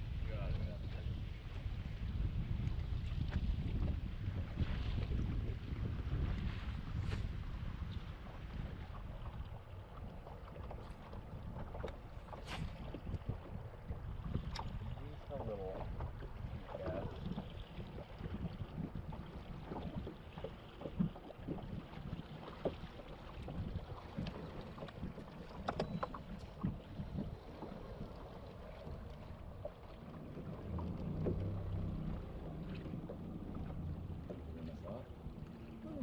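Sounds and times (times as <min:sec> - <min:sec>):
water against boat: 0:00.0 - 0:36.0
wind on microphone: 0:00.0 - 0:36.0.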